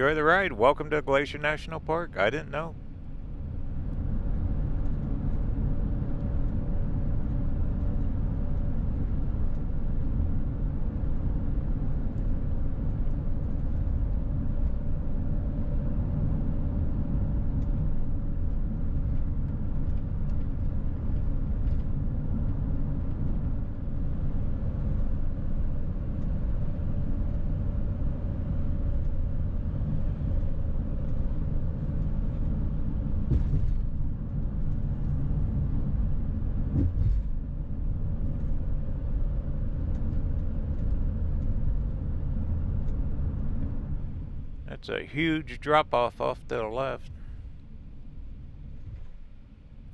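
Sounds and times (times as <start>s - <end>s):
van road and engine rumble: 0.0s - 49.9s.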